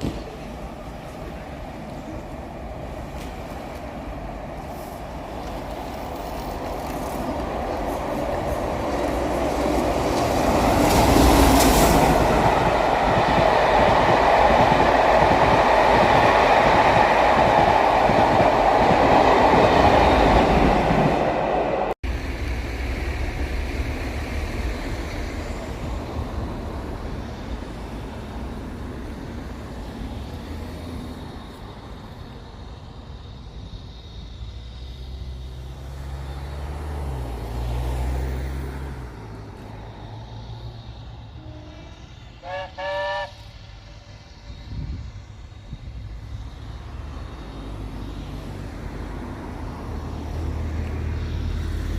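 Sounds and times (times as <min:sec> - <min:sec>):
train passing at speed: 0:00.0 - 0:51.9.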